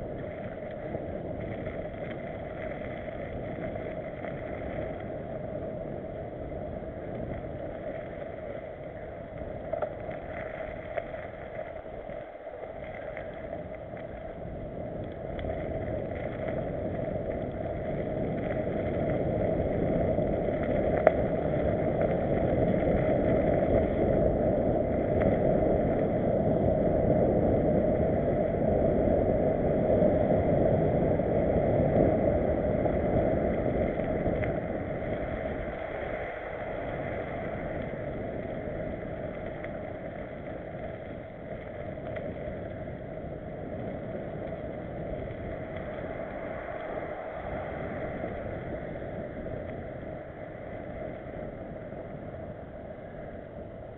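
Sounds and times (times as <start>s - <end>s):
mountain bike rumbling on dirt trail: 0.0s - 53.9s
wind buffeting microphone: 0.0s - 53.9s.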